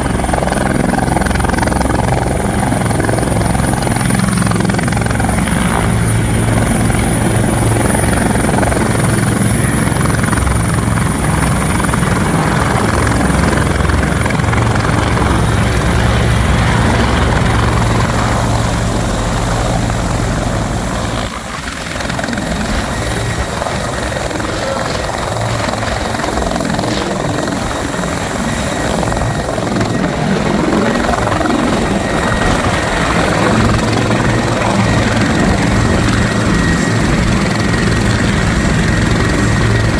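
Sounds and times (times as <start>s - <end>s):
helicopter rotor and engine noise: 0.0s - 39.9s
high turbine whine: 0.0s - 39.9s.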